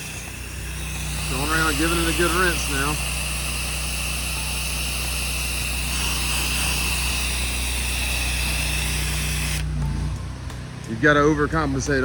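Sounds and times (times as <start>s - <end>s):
water spray hissing: 0.0s - 9.7s
pressure washer engine running: 0.0s - 12.0s.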